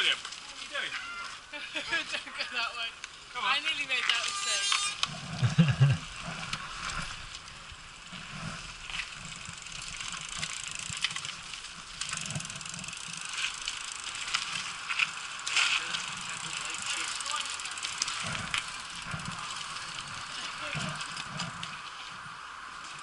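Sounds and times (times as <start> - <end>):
bike clicks and rattles: 3.0 - 23.0.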